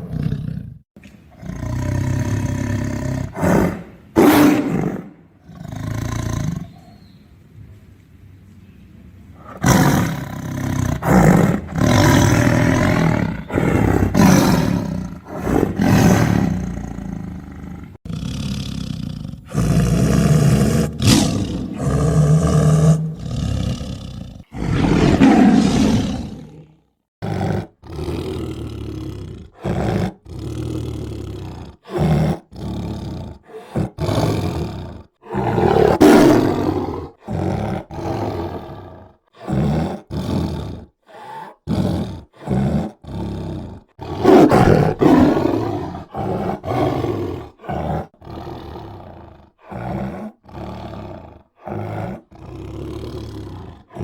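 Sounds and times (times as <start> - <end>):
tiger roaring and growling: 0.0 - 7.0, 9.4 - 54.0.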